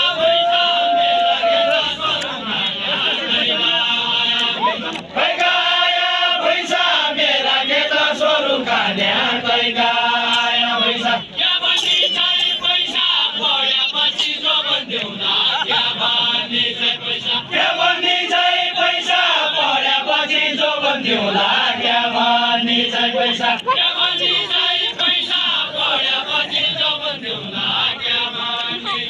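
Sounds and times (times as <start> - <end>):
group singing folk song: 0.0 - 29.0.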